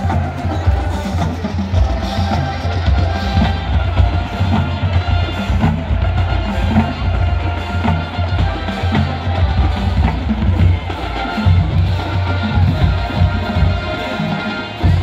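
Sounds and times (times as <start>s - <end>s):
bass drum and snare drums: 0.0s - 15.0s
horns: 0.0s - 15.0s
marching band playing: 0.0s - 15.0s.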